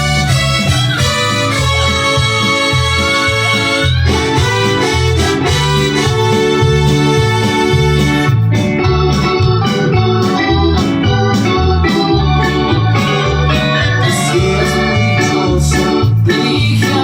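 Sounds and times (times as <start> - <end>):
band music with electronic organ: 0.0 - 17.0.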